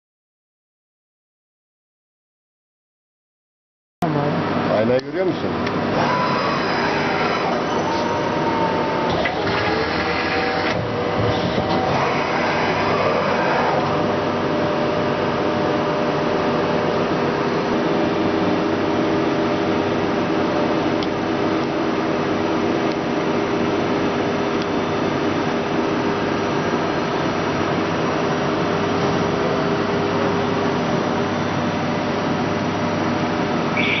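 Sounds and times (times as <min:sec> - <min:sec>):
lathe humming and whining: 0:04.5 - 0:34.0.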